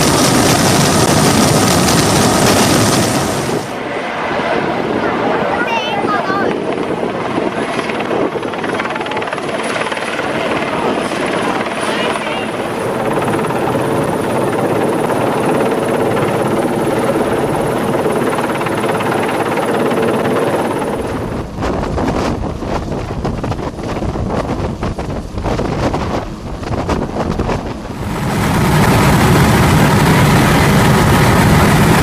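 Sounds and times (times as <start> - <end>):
helicopter engines and rotor roaring: 0.0 - 32.0
high turbine whine: 0.0 - 32.0.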